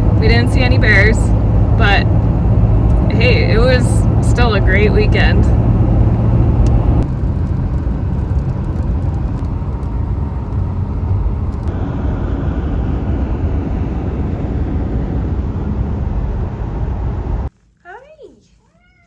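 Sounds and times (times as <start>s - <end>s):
car road noise inside cabin: 0.0s - 17.5s.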